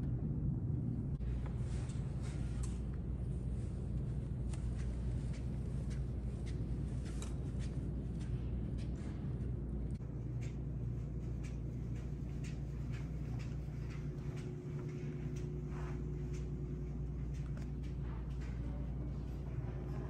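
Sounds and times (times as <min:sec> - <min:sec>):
low hum: 0:00.0 - 0:20.0
footsteps walking: 0:01.2 - 0:20.0.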